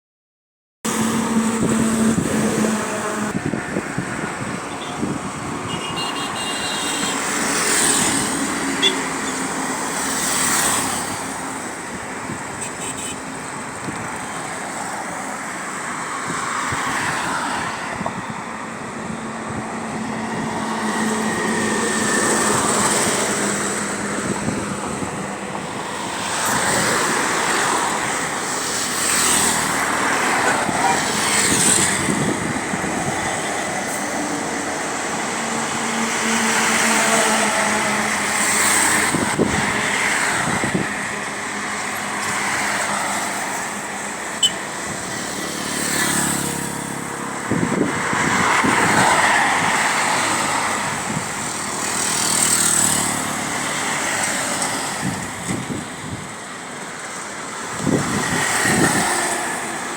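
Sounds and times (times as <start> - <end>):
road traffic noise: 0.8 - 59.9.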